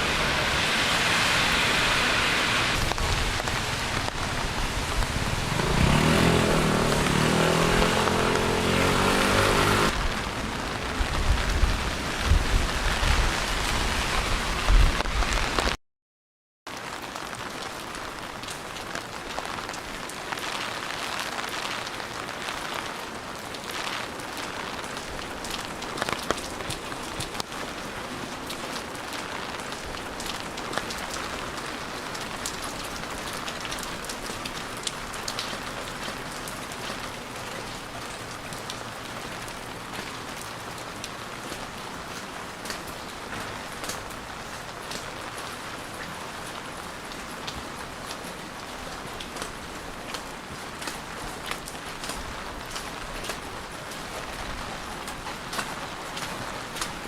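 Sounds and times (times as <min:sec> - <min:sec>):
steady rain falling: 0:00.0 - 0:15.8, 0:16.7 - 0:57.0.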